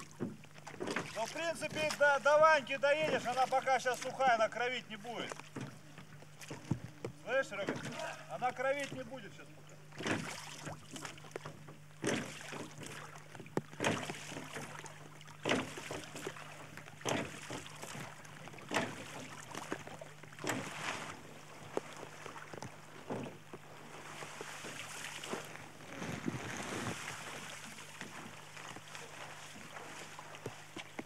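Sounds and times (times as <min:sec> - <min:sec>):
oars splashing in water: 0:00.0 - 0:31.0.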